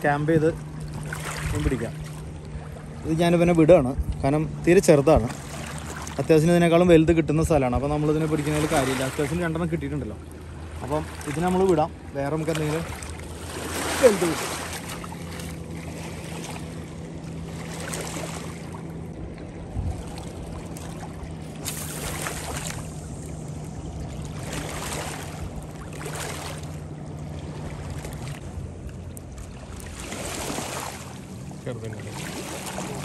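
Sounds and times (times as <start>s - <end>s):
waves lapping on rocks: 0.0s - 6.9s, 8.0s - 18.9s, 19.8s - 28.6s, 29.2s - 33.0s
steady low hum: 0.0s - 33.0s.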